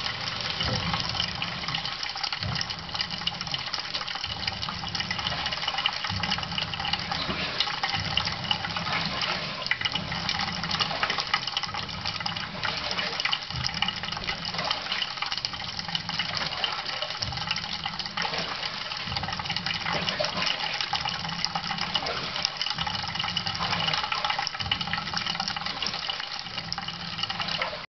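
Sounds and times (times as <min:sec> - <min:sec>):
bird bathing splashes: 0:00.0 - 0:26.7
tap water running into basin: 0:00.0 - 0:27.9.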